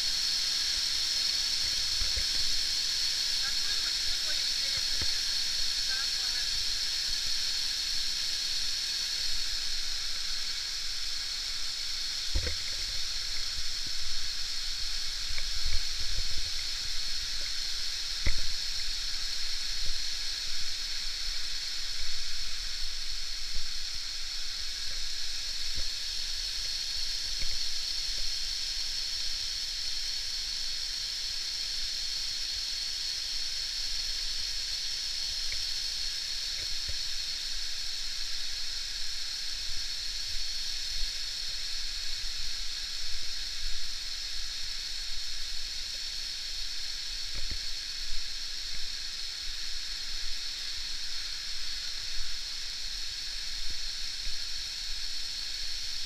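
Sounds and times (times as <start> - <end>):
waterfall rushing hiss: 0.0 - 56.0.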